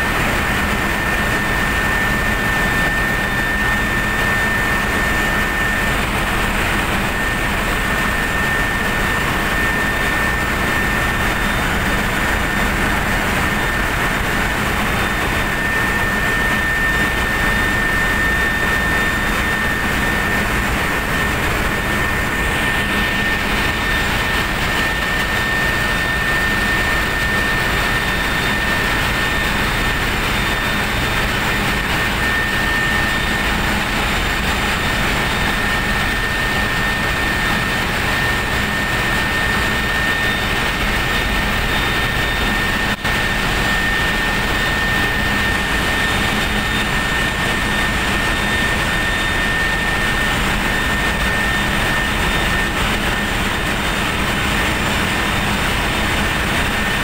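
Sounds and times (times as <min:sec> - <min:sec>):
machinery engines droning: 0:00.0 - 0:57.0
thin high whine: 0:00.0 - 0:57.0.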